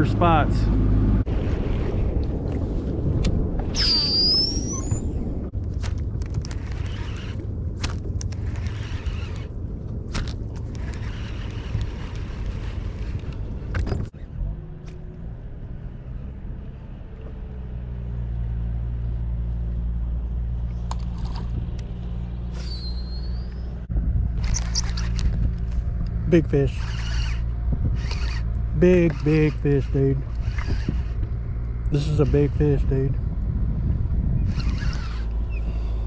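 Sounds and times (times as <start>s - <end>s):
boat motor rumbling: 4.3s - 36.0s.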